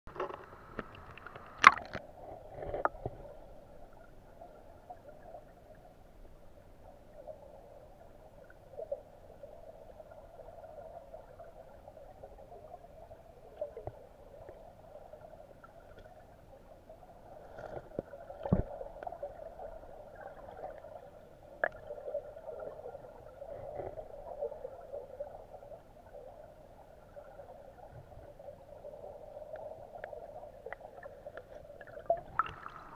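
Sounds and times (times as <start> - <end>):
muffled underwater wash: 0.1 - 32.9.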